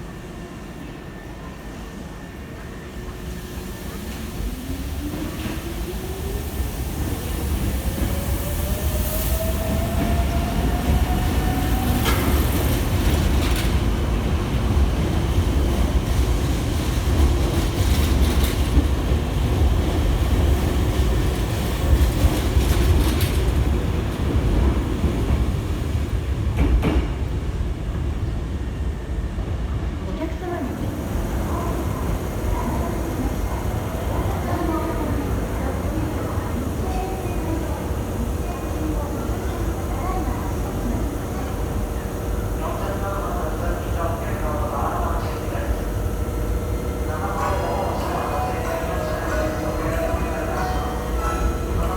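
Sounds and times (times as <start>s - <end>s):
train rumble: 0.0s - 51.9s.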